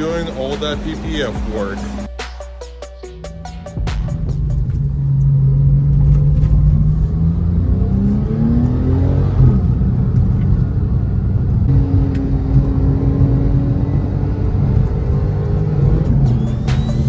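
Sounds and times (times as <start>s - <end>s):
car engine revving: 0.0s - 2.2s, 2.9s - 17.0s.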